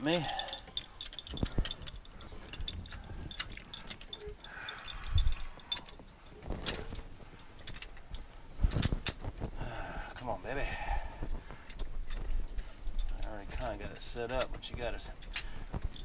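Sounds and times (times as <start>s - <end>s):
light metal clicks and clinks: 0.0s - 9.4s, 10.1s - 16.0s.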